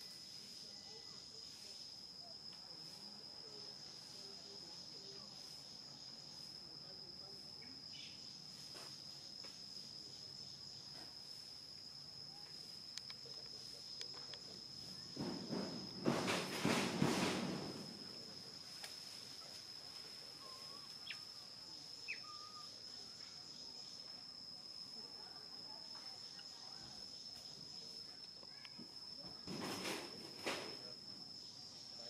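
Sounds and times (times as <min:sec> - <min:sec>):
high-pitched insect drone: 0:00.0 - 0:16.7, 0:17.4 - 0:29.4.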